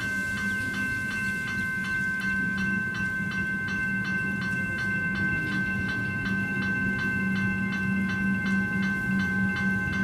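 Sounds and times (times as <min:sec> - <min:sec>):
crossing warning bells ringing: 0:00.0 - 0:10.0
steady high ringing tone: 0:00.0 - 0:10.0.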